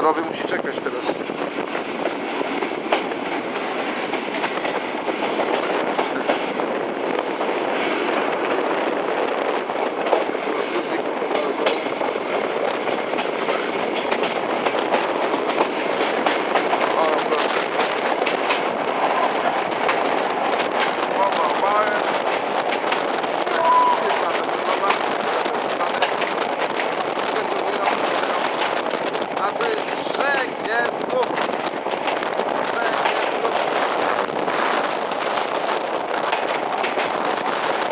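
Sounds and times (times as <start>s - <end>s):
train rolling rumble: 0.0s - 37.9s.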